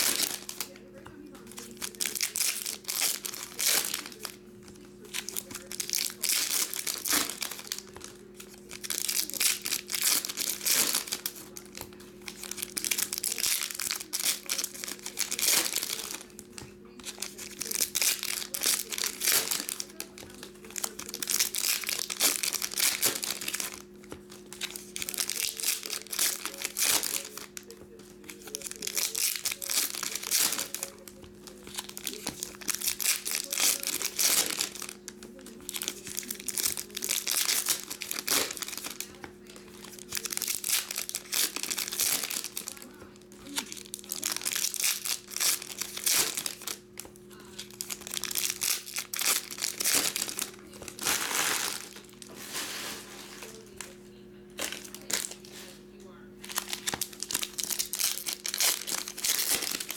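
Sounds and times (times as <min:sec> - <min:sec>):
foil wrappers tearing and crinkling: 0:00.0 - 0:54.0, 0:54.6 - 0:55.8, 0:56.4 - 0:59.9.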